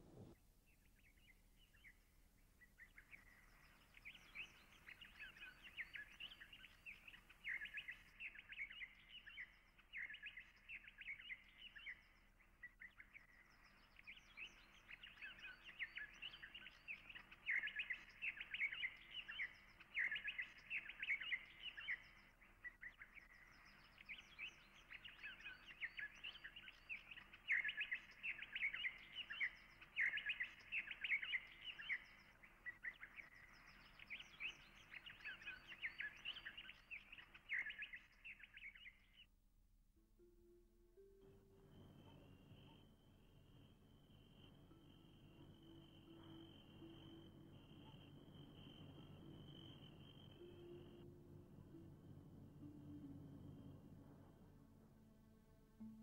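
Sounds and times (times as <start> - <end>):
small birds chirping: 0.0 - 39.3, 41.0 - 56.0.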